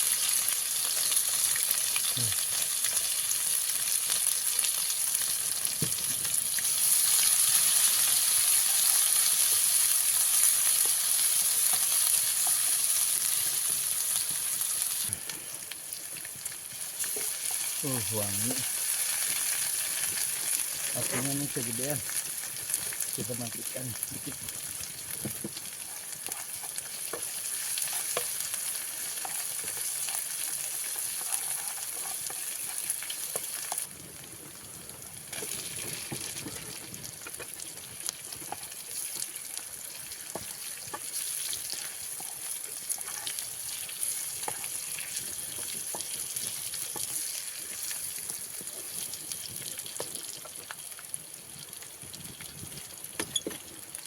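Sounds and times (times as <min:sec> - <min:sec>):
paste sizzling in hot oil: 0:00.0 - 0:33.9, 0:35.2 - 0:52.6.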